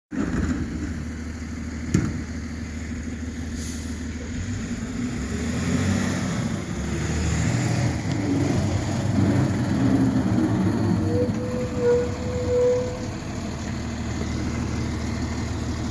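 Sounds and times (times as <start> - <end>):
garbage truck diesel engine rumbling: 0.1 - 15.9.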